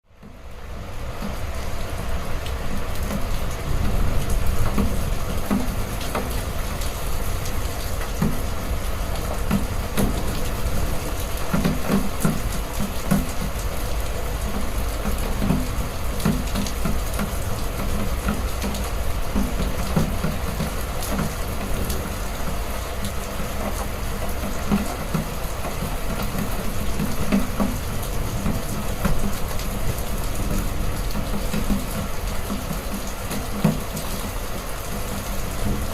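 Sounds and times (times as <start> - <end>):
heavy rain falling: 0.1 - 35.9.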